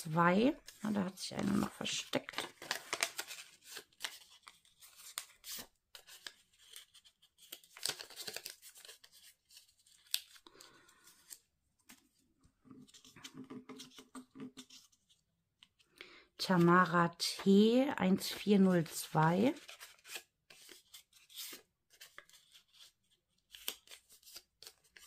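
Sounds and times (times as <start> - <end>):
paper folding and rustling: 0.0 - 15.8, 18.1 - 25.0.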